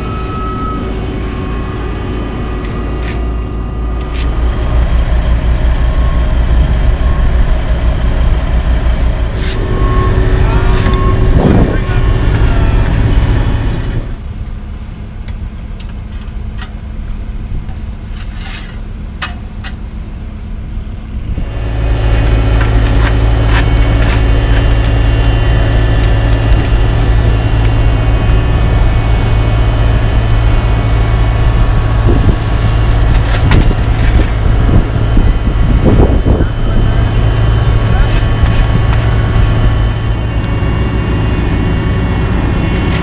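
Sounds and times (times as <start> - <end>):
heavy diesel engines running: 0.0 - 43.0.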